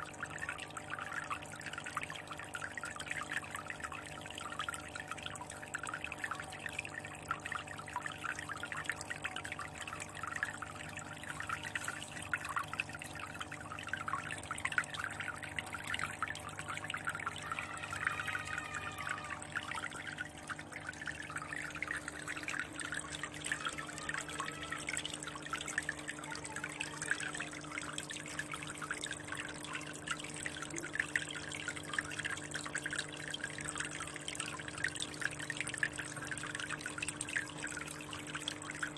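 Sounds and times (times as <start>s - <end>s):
water trickling into fish tank: 0.0s - 38.9s.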